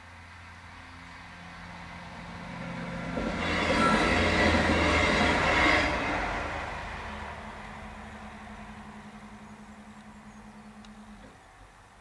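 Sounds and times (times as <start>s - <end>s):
diesel train passing: 0.0s - 12.0s
wheels rushing on rail: 0.0s - 12.0s.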